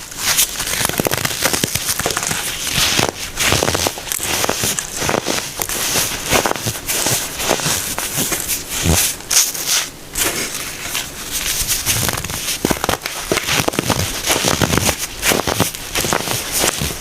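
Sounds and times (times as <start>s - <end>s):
baking soda crunching by hand: 0.1s - 17.0s.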